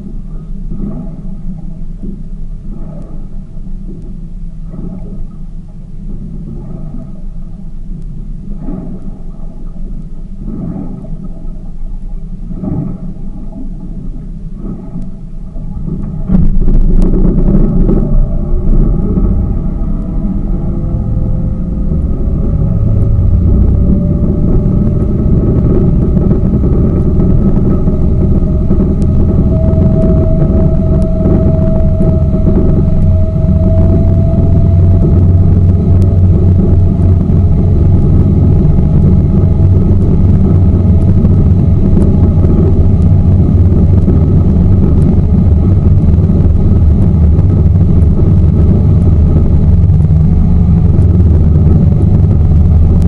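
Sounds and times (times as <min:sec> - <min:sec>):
boat motor low rumble: 0:00.0 - 0:53.0
faint engine tone: 0:00.0 - 0:53.0.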